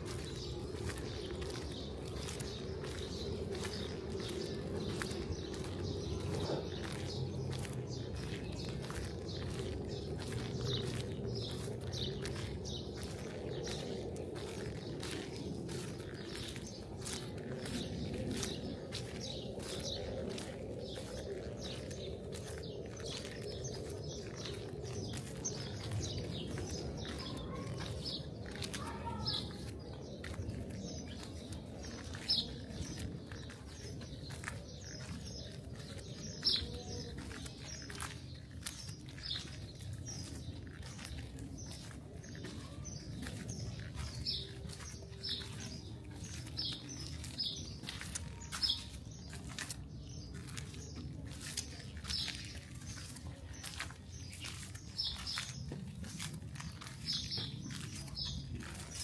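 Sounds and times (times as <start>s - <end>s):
city background rumble: 0.0s - 59.0s
small birds chirping: 0.0s - 59.0s.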